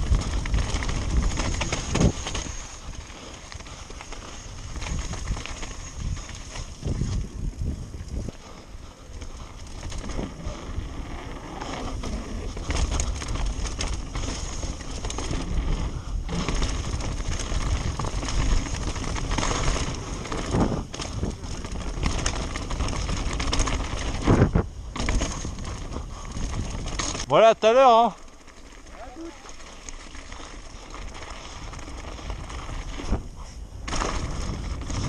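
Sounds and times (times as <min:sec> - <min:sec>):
wind rumble on microphone: 0:00.0 - 0:27.3, 0:30.4 - 0:35.0
bike rattling and knocking: 0:00.0 - 0:35.0
bike tyres rolling: 0:00.0 - 0:35.0.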